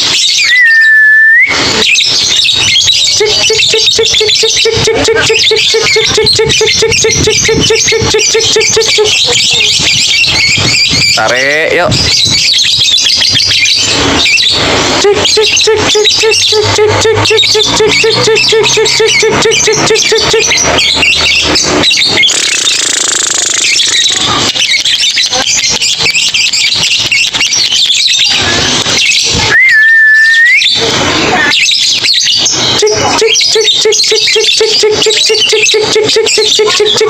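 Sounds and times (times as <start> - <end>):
loud whistled bird note: 0.0 - 28.4, 29.0 - 37.0
lovebird chattering: 1.6 - 29.8, 31.5 - 37.0.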